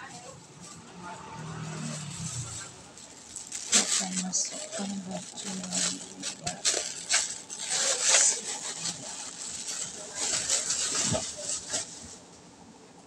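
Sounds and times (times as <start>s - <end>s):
fabric rustling in washing machine: 0.0s - 12.3s.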